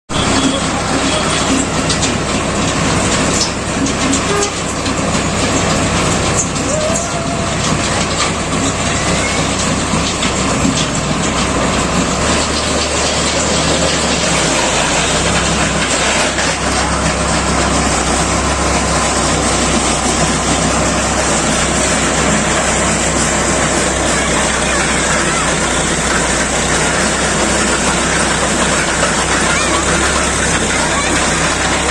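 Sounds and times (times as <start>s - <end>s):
earth auger engine drone: 0.1s - 31.9s
knocks and rattles: 0.2s - 31.9s.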